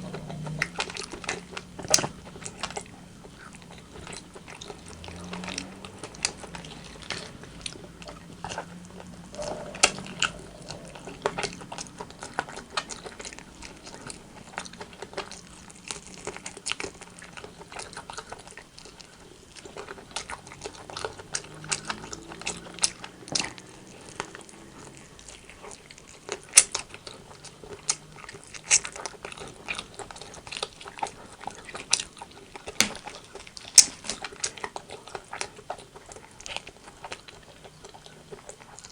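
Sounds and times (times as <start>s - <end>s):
person chewing with wet clicks: 0.0s - 38.9s.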